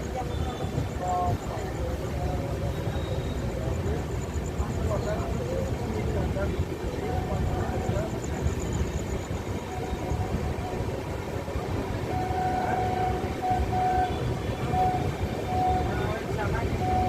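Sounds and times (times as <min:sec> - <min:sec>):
thin steady tone: 0:00.0 - 0:17.0
train rumbling: 0:00.0 - 0:17.0.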